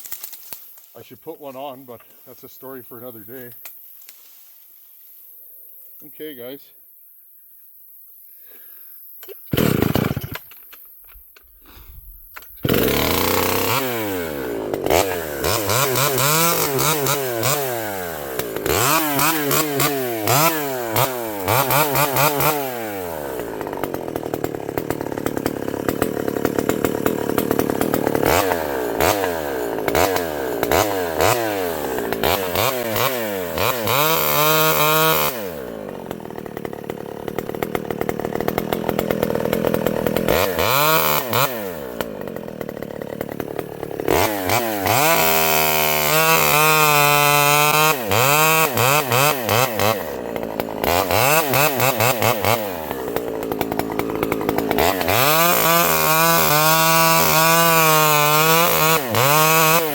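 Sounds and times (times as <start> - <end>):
chainsaw revving: 9.2 - 10.6, 11.5 - 59.9.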